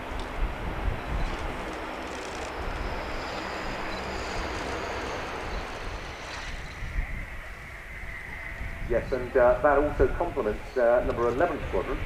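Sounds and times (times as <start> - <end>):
high turbine whine: 0.0 - 12.0
jet aircraft roar: 0.0 - 12.0.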